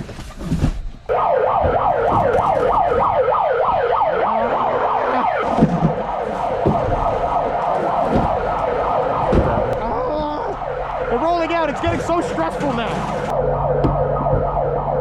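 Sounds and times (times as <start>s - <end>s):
siren wailing: 1.1s - 15.0s.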